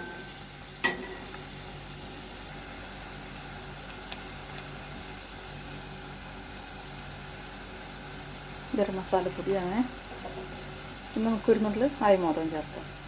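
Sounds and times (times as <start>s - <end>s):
food frying in oil: 0.0s - 13.0s.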